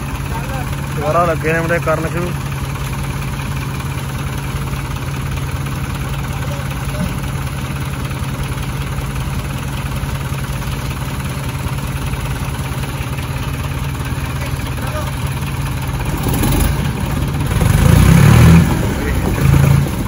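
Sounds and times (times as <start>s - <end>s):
tractor diesel engines running: 0.0s - 20.0s.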